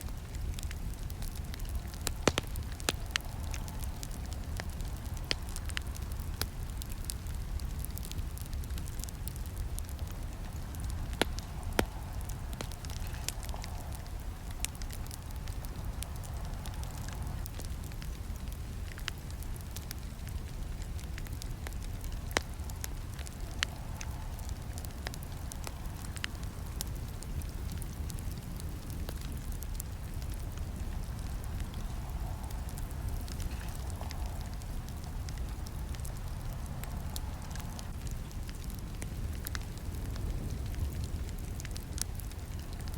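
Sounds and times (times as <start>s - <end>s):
campfire snaps and pops: 0.0s - 42.9s
low rumble of burning: 0.0s - 42.9s.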